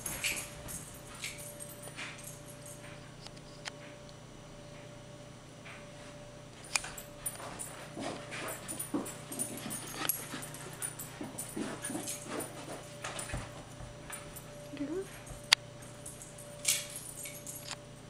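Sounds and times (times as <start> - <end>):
clicks and jingles: 0.0 - 3.6, 6.6 - 18.0.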